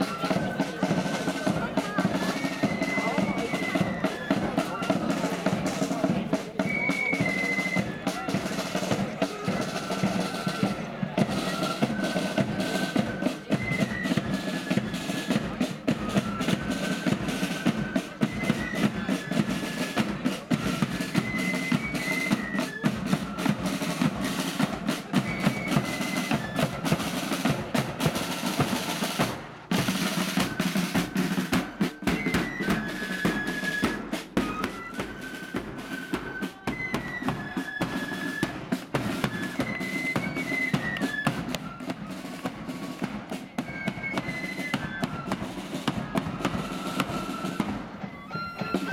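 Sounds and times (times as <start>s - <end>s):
flute melody: 0.0s - 48.9s
rolling snare drums: 0.0s - 48.9s.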